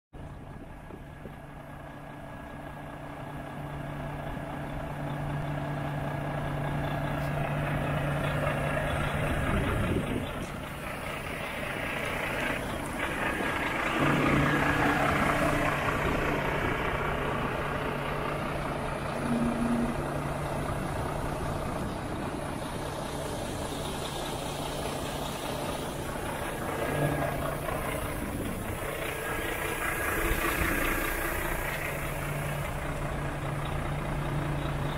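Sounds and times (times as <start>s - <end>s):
diesel engine idling: 0.2s - 34.9s.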